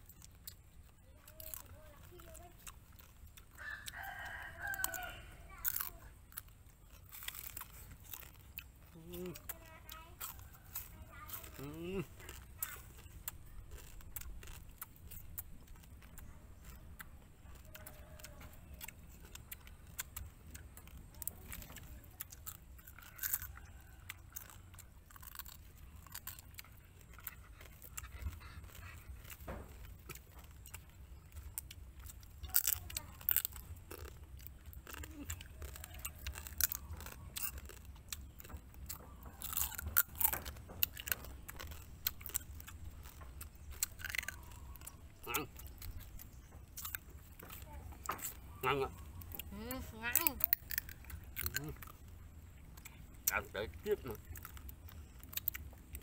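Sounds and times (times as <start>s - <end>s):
chewing and crunching crab: 0.0s - 56.0s
crab shells cracking: 0.0s - 56.0s.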